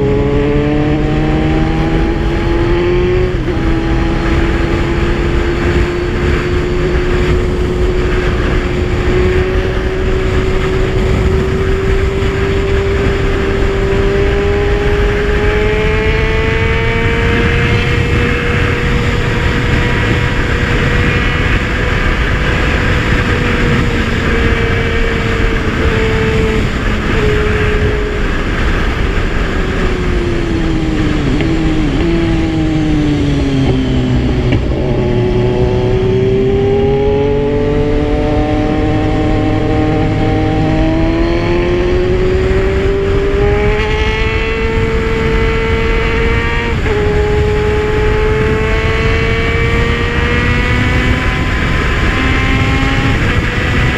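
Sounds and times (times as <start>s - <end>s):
motorcycle engine cruising: 0.0s - 53.9s
wind and road noise: 0.0s - 53.9s.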